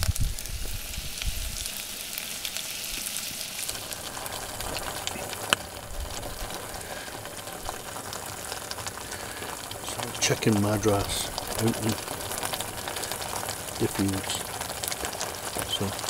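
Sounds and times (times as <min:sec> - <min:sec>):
food sizzling in a pot: 0:00.0 - 0:16.0
sauce simmering: 0:00.0 - 0:16.0.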